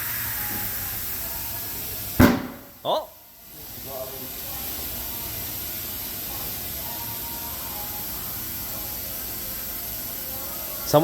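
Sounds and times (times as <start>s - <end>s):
compressed air hissing into tire: 0.0s - 11.0s.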